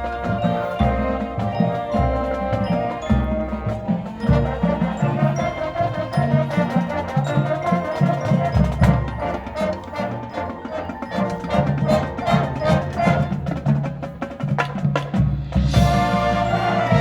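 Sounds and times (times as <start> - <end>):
marching band playing: 0.0 - 17.0
percussion striking quick rhythm: 0.0 - 17.0.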